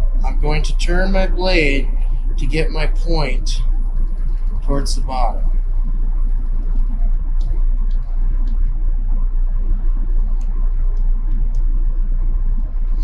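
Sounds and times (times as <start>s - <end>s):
machine hum and rumble: 0.0s - 13.0s.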